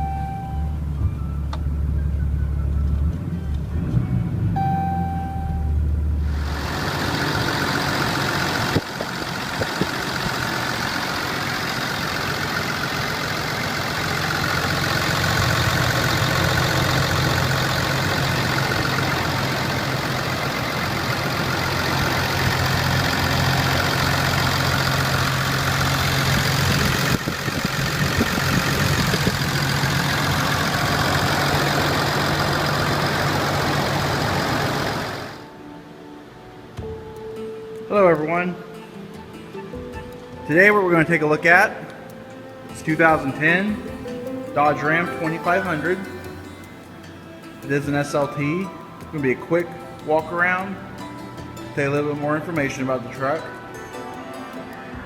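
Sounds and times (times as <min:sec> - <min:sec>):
diesel engine idling: 0:00.0 - 0:35.5, 0:41.9 - 0:53.8.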